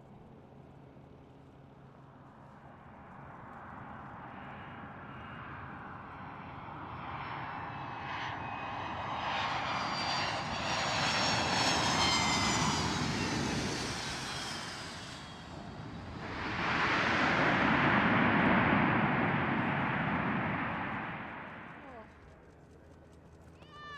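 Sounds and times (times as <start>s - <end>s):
airplane engines passing: 0.7s - 23.9s.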